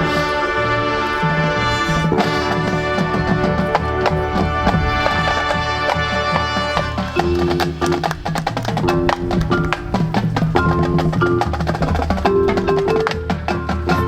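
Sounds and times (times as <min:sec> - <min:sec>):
marching band playing: 0:00.0 - 0:14.0
sharp percussion hits: 0:00.0 - 0:14.0.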